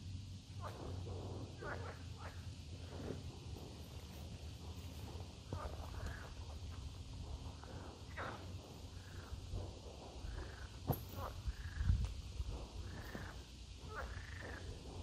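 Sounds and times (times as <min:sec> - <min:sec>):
low wind rumble: 0:00.0 - 0:15.0
frogs calling: 0:00.5 - 0:15.0.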